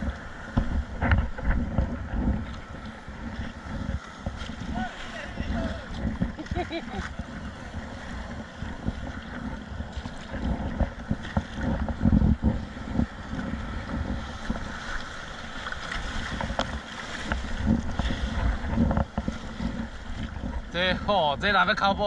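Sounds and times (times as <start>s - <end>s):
choppy water against hull: 0.0s - 22.0s
wind buffeting microphone: 0.0s - 22.0s.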